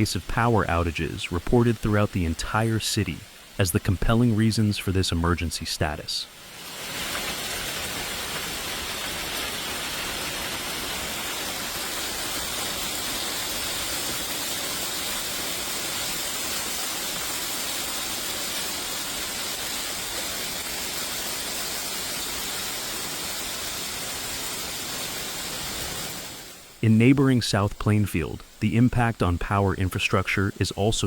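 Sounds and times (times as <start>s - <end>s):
heavy rain falling: 0.0s - 28.6s.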